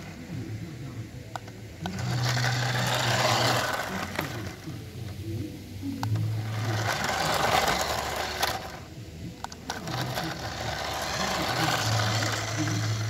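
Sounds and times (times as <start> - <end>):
toy car electric motor whirring: 1.4 - 5.2, 6.0 - 13.0.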